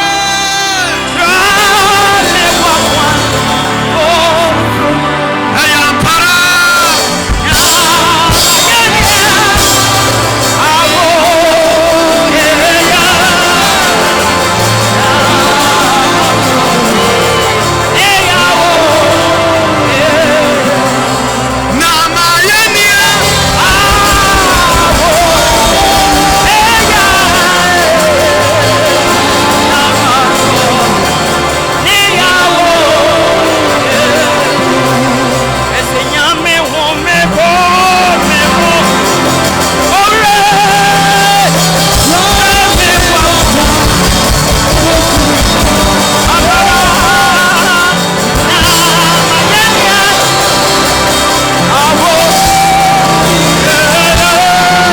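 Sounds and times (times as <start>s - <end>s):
person singing: 0.0s - 54.9s
steady bass line: 7.0s - 36.0s, 38.1s - 54.9s.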